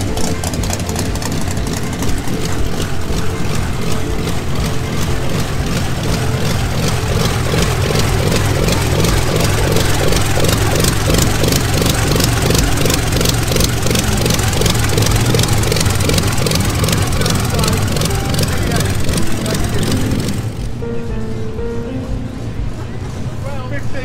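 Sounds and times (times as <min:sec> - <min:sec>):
large car engine running: 0:00.0 - 0:24.0.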